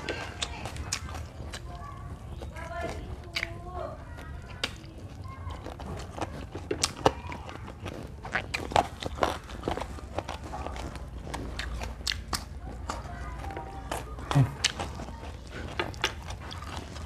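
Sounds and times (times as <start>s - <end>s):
crunchy chewing of raw vegetables: 0.0s - 17.0s.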